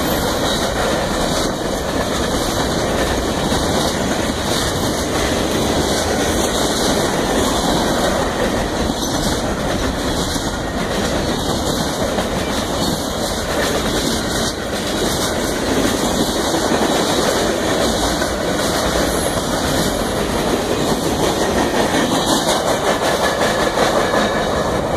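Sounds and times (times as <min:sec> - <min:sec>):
freight train wheels clattering: 0:00.0 - 0:24.9.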